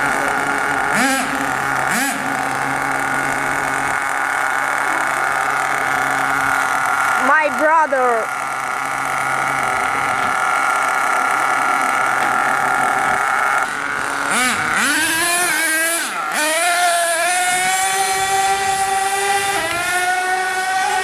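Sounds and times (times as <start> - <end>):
toy truck motor revving: 0.0 - 21.0.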